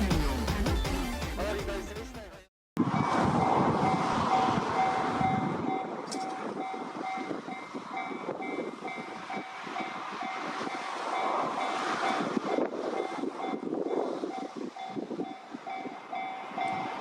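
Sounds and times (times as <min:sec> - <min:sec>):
level-crossing warning bell: 0:02.8 - 0:17.0
train rumbling past: 0:02.8 - 0:17.0.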